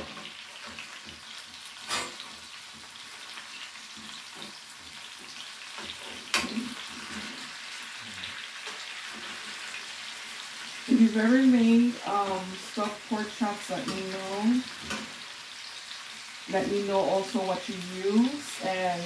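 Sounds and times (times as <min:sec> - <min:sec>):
meat sizzling in a skillet: 0:00.0 - 0:19.0.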